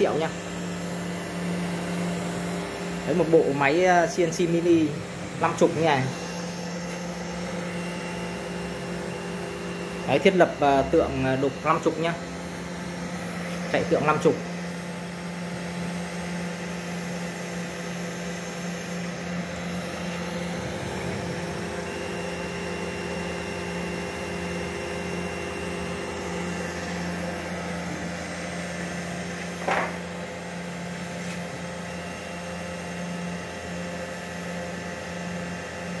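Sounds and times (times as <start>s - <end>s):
cnc machine motor hum: 0.0s - 36.0s.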